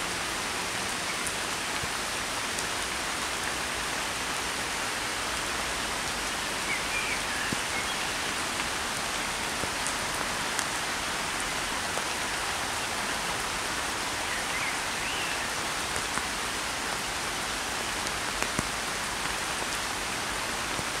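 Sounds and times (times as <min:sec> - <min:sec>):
rain falling on water: 0:00.0 - 0:21.0.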